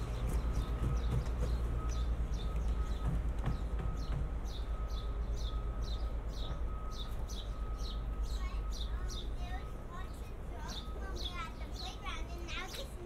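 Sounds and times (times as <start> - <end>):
small bird chirping: 0.0 - 12.9
low traffic rumble: 0.0 - 13.0.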